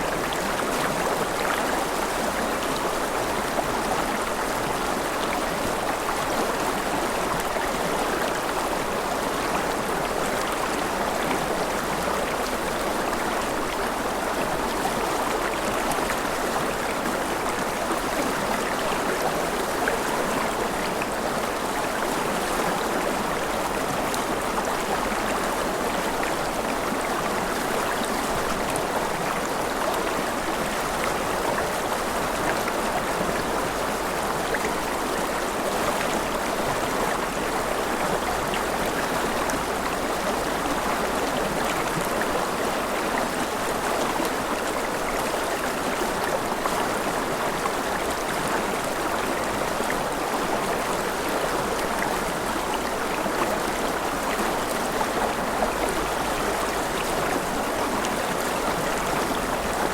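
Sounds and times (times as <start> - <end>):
river flowing over rapids: 0.0 - 59.9.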